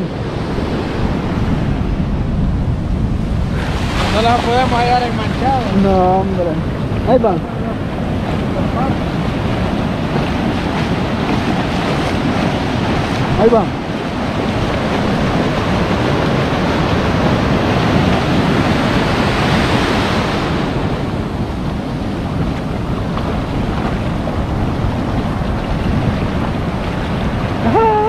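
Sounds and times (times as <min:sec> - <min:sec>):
waves breaking: 0:00.0 - 0:28.0
wind on microphone: 0:00.0 - 0:28.0.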